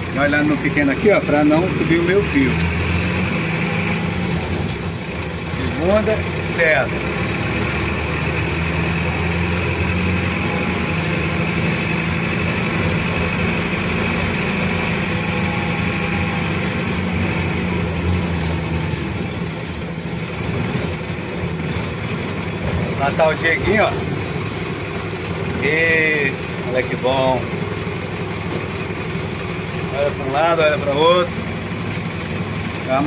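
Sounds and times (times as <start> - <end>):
bus engine hum: 0.0 - 33.0.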